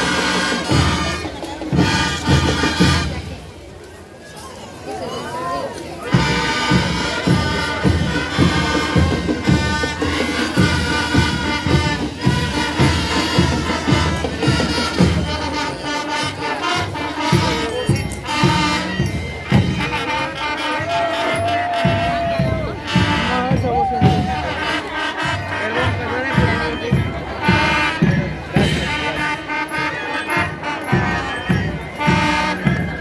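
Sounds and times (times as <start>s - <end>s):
brass melody: 0.0s - 3.4s, 6.0s - 33.0s
steady drum beat: 0.0s - 3.5s, 6.0s - 33.0s.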